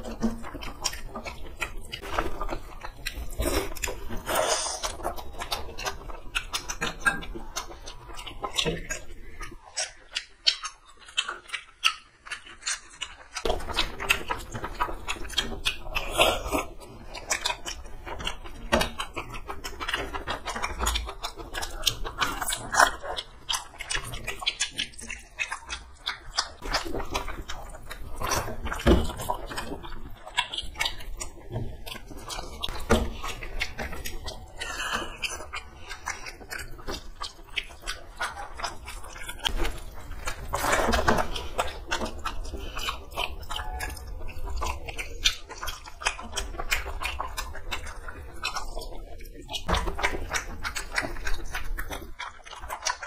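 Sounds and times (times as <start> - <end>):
fingers mixing rice on plates: 0.0 - 53.0
wet chewing and mouth clicks: 0.0 - 53.0.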